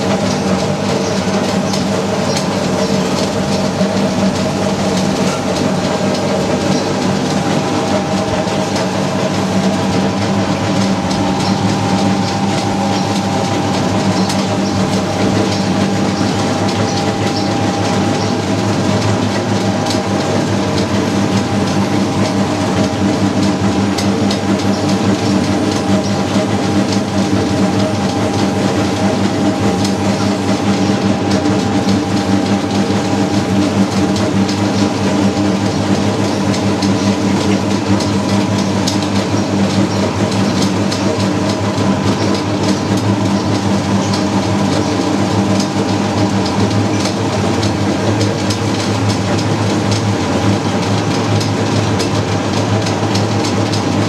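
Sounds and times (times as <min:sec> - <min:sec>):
grinding machine hum: 0:00.0 - 0:54.0
pestle grinding rattle: 0:00.0 - 0:54.0.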